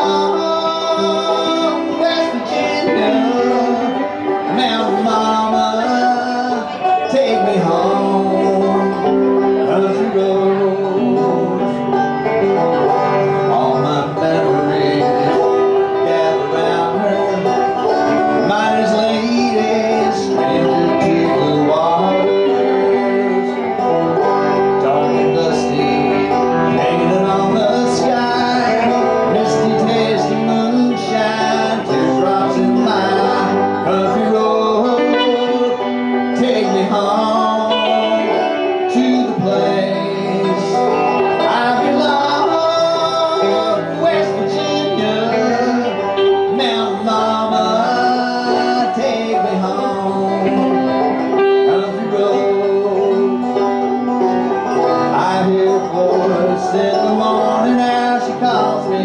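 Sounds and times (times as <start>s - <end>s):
banjo: 0.0s - 59.0s
electric guitar: 0.0s - 59.0s.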